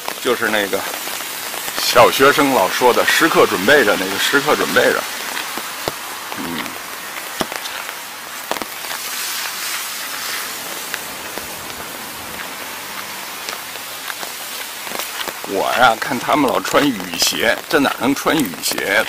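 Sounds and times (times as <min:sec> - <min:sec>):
raindrops ticking on umbrella: 0:00.0 - 0:19.0
steady rain: 0:00.0 - 0:19.0.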